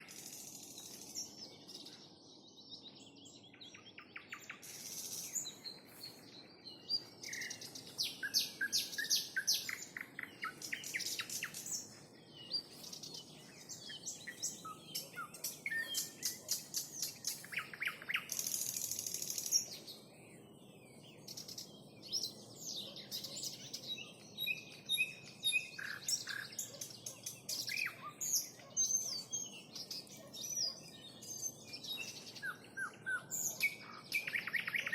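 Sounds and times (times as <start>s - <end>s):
nightingale singing: 2.7s - 34.9s.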